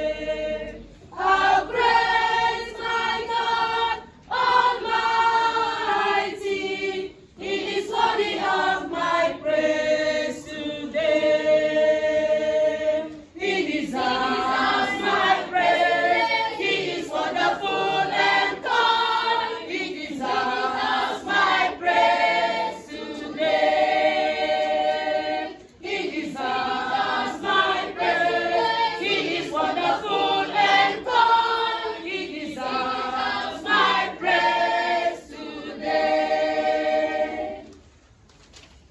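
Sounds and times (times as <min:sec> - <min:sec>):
choir singing unaccompanied: 0:00.0 - 0:37.8.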